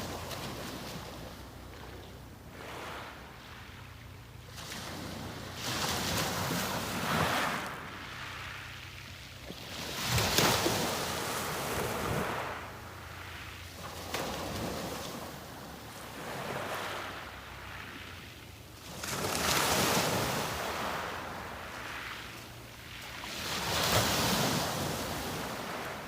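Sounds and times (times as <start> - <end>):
sea waves breaking on beach: 0.0 - 26.0.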